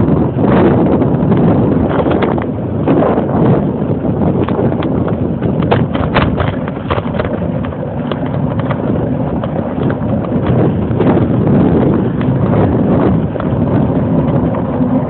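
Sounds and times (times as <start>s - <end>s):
wind buffeting microphone: 0.0s - 15.0s
sharp clicks and rattles: 1.3s - 3.7s, 4.3s - 15.0s.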